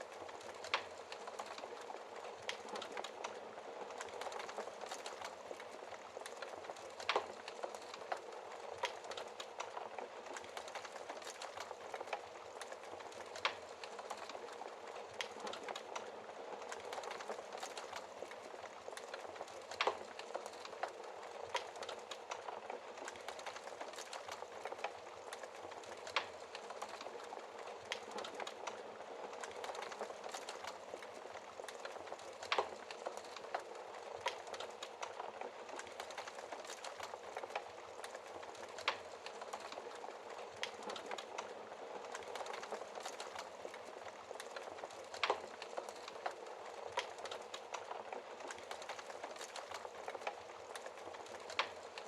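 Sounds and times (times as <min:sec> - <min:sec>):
soft hiss of fire: 0:00.0 - 0:52.0
wood fire crackling: 0:00.0 - 0:52.0.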